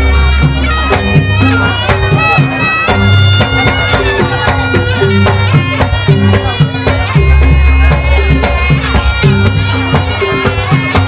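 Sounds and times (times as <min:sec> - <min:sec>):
drums struck: 0:00.0 - 0:11.0
reedy shawm melody: 0:00.0 - 0:11.0.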